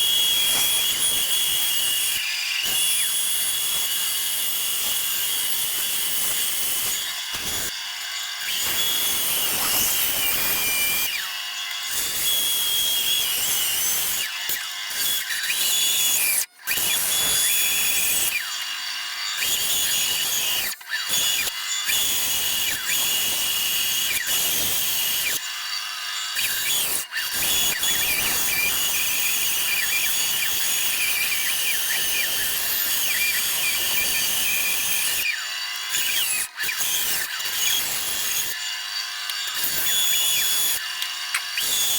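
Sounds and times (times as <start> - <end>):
bandsaw cutting wood: 0.0 - 41.9.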